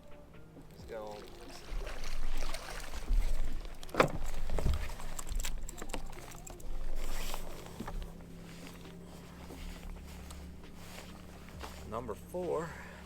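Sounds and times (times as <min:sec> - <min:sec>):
steady low hum: 0:00.0 - 0:13.0
knocks and thuds on a boat: 0:00.5 - 0:12.3.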